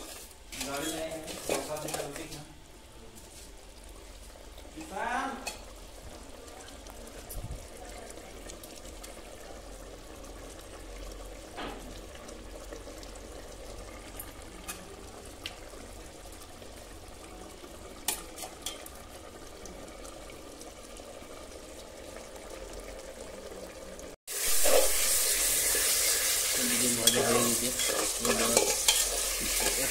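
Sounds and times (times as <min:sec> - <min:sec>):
curry bubbling in a pot: 0:03.2 - 0:29.9.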